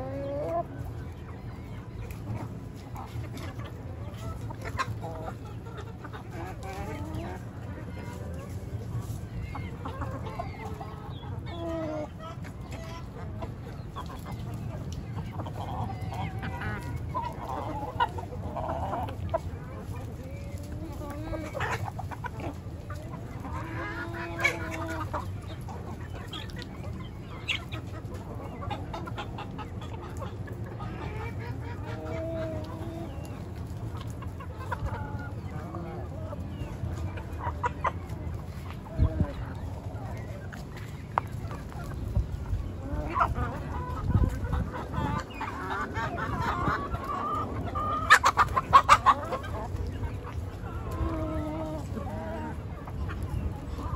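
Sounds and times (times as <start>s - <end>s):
drawn-out chicken call: 0.0s - 53.9s
hens clucking: 0.0s - 53.9s.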